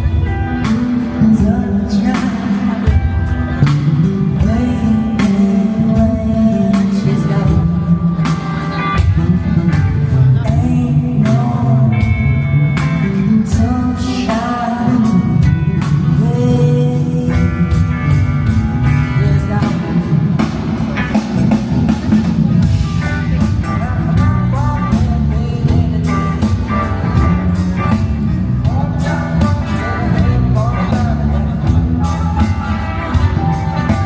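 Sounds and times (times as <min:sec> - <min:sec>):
electric guitar: 0:00.0 - 0:34.0
rock band playing: 0:00.0 - 0:34.0.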